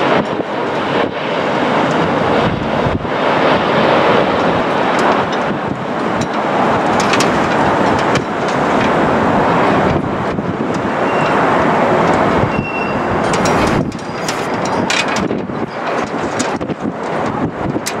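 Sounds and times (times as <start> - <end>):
jet engine roar: 0.0 - 18.0
wind buffeting microphone: 0.0 - 18.0.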